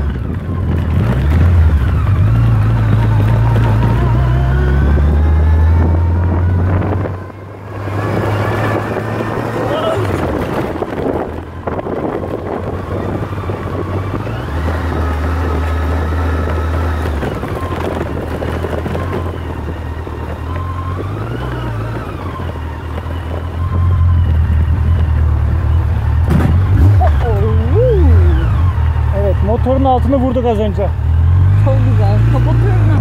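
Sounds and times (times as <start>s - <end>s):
wind buffeting microphone: 0.0s - 30.8s
motorcycle engine revving: 0.0s - 33.0s.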